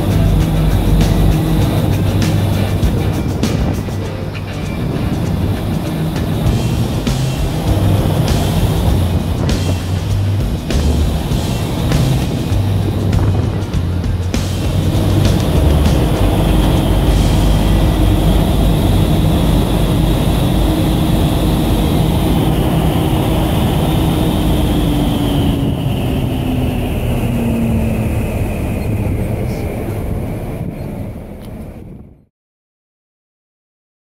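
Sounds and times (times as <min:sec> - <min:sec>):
fan whine: 0:00.0 - 0:32.2
wind tunnel fans rushing air: 0:00.0 - 0:32.3.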